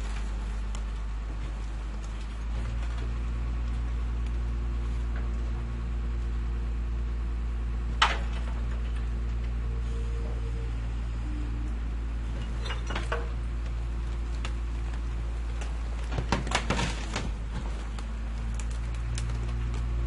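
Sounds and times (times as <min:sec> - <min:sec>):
garbage truck engine idling: 0:00.0 - 0:20.0.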